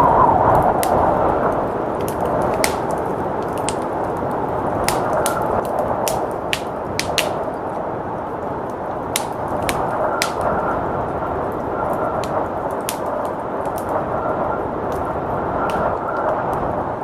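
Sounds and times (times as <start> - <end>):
blizzard wind rushing: 0.0 - 17.0
wood fire crackling and popping: 0.0 - 17.0.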